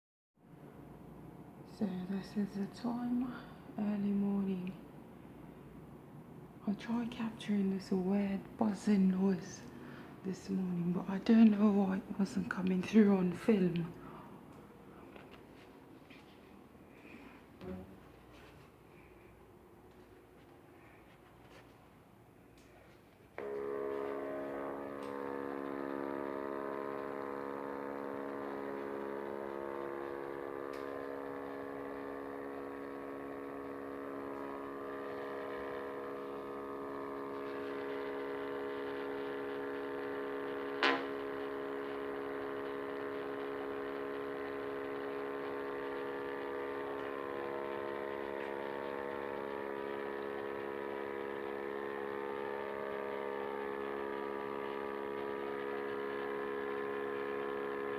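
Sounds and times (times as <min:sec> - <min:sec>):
buzzing drone of held tones: 0:00.5 - 0:19.2, 0:22.6 - 0:57.9.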